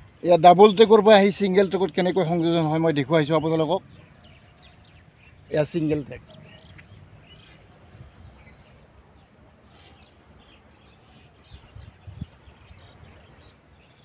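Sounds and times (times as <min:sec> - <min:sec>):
faint bird chirps: 0:01.2 - 0:14.0.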